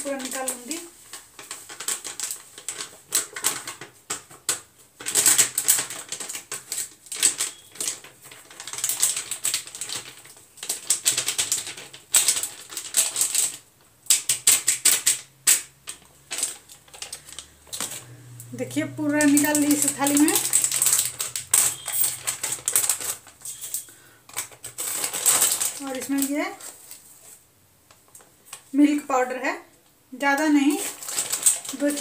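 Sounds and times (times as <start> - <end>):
foil packet crinkling: 0.0 - 28.8, 30.3 - 32.0.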